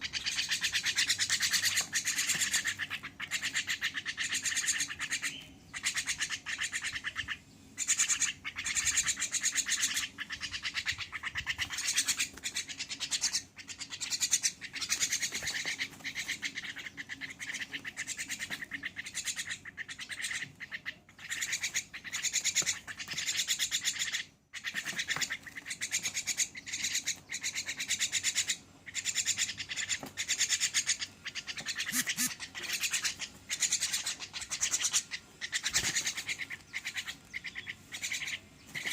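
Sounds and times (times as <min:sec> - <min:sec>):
myna giving raspy calls: 0:00.0 - 0:38.9.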